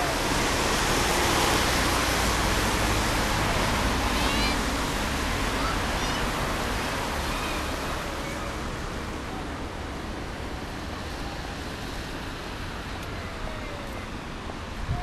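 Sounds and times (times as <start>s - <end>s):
car tyres hissing on wet road: 0.0s - 12.9s.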